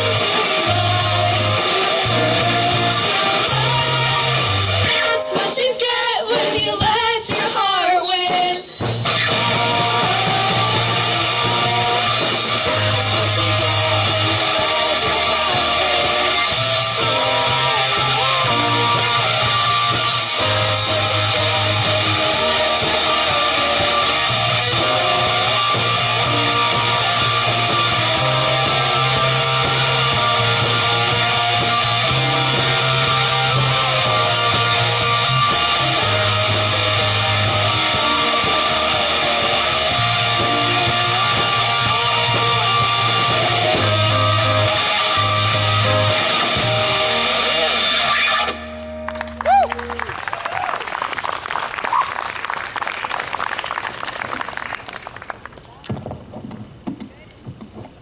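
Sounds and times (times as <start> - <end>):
person singing: 0.0 - 31.3, 32.5 - 47.9
rock band playing: 0.0 - 51.0.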